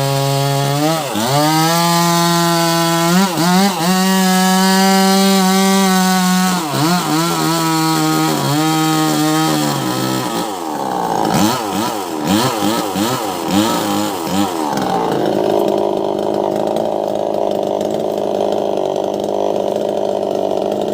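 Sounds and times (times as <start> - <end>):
chainsaw revving: 0.0 - 20.9.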